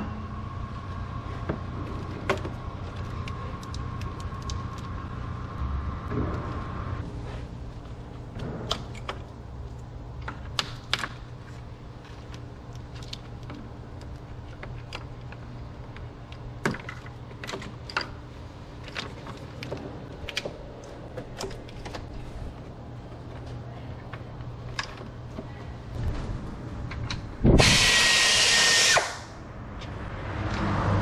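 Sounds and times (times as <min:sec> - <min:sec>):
steady low hum: 0:00.0 - 0:30.2.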